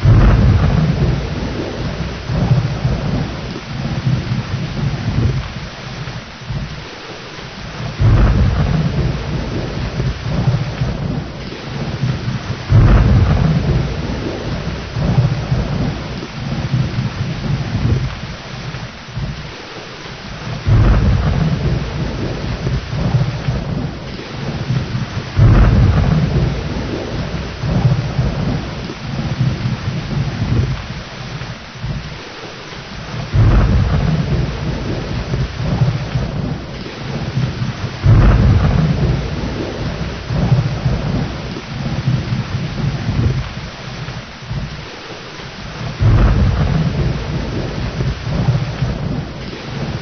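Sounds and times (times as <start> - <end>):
heavy rain: 0.0 - 50.0
rolling thunder: 0.0 - 50.0.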